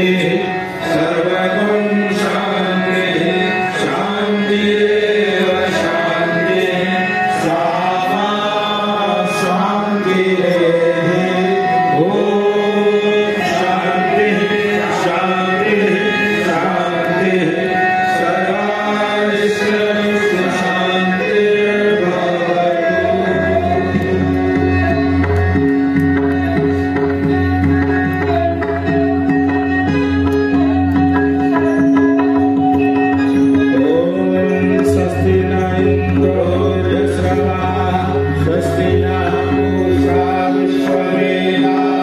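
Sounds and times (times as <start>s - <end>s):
gliding melody: 0.0s - 42.0s.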